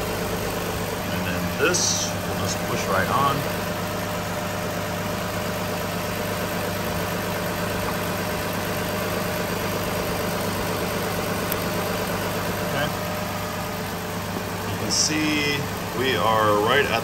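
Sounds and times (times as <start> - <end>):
air conditioning running: 0.0 - 17.0
car engine idling: 0.0 - 17.0.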